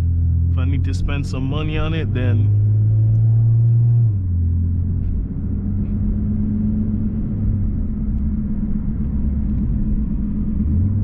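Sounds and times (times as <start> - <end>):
low exhaust drone in car cabin: 0.0 - 11.0.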